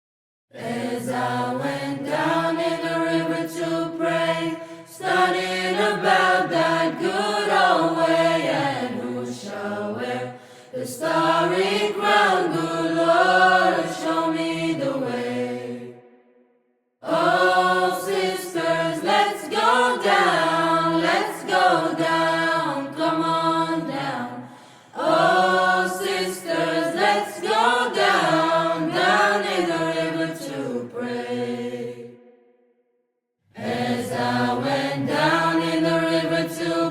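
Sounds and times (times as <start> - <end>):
chant-like singing: 0.5 - 16.0, 17.0 - 32.2, 33.6 - 36.9.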